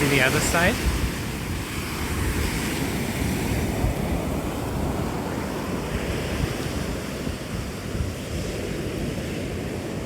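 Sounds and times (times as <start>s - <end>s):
surf washing on beach: 0.0s - 10.0s
wind buffeting microphone: 0.0s - 10.0s.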